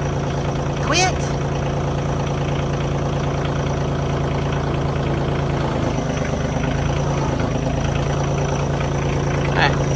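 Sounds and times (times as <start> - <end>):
vehicle engine idling: 0.0 - 9.9.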